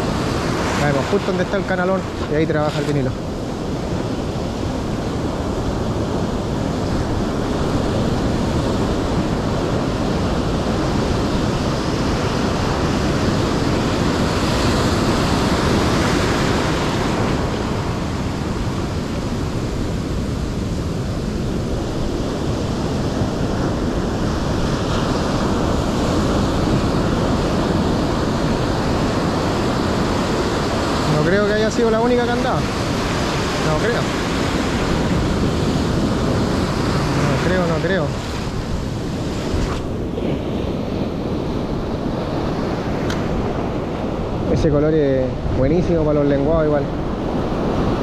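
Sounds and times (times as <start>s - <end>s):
ocean surf breaking on beach: 0.0s - 48.0s.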